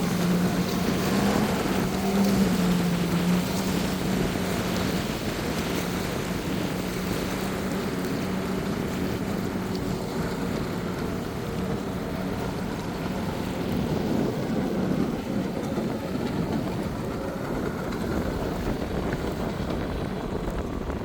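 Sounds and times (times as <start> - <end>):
jet ski engine hum: 0.0 - 21.0
wind buffeting microphone: 0.0 - 21.0.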